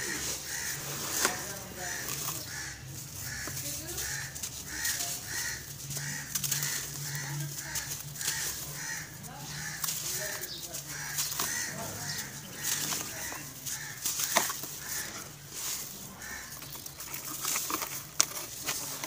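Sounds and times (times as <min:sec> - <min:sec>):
powder sifting hiss: 0:00.0 - 0:17.0
bird calling: 0:00.0 - 0:19.0
hands crumbling dry chalk: 0:00.0 - 0:19.0.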